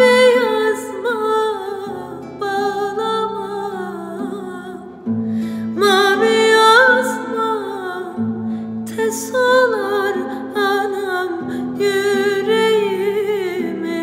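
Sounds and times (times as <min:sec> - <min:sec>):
woman singing folk song: 0:00.0 - 0:14.0.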